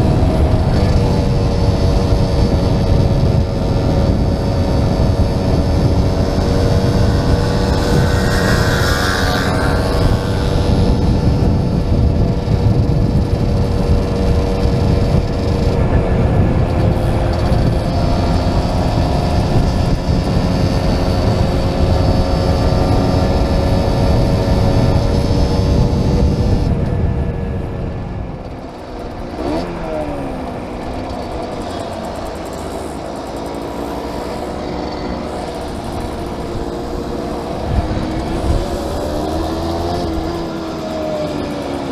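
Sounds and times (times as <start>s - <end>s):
motorcycle engine running: 0.0s - 41.9s
wind rumble: 0.0s - 41.9s.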